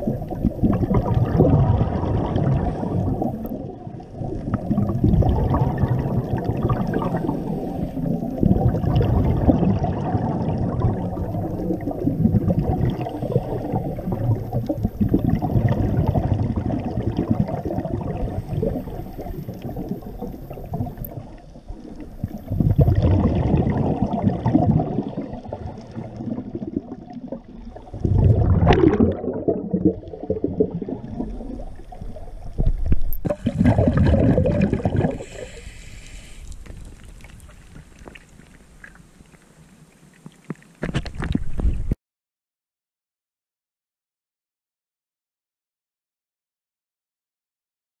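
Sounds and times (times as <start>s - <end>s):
muffled underwater water sloshing: 0.0s - 42.0s.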